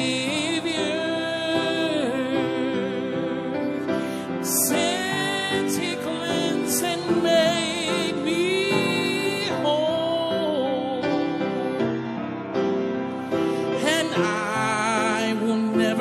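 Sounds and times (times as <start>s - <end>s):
man singing a hymn: 0.0s - 11.8s, 13.6s - 16.0s
grand piano: 0.0s - 16.0s.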